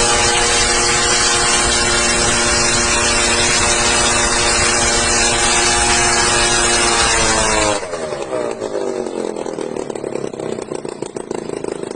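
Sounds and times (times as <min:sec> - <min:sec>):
small aircraft engine: 0:00.0 - 0:11.9.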